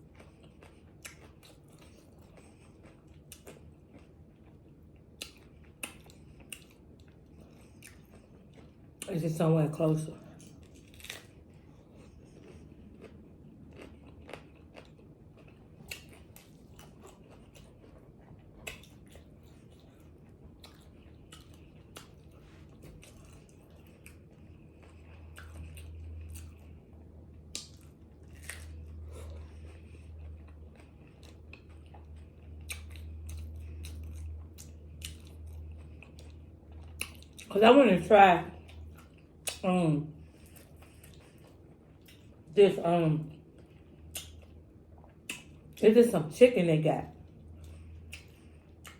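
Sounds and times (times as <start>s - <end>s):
person chewing crunchy food: 0.0s - 9.1s, 10.3s - 37.5s, 38.6s - 39.6s, 40.2s - 42.5s, 43.4s - 45.8s, 47.2s - 48.9s.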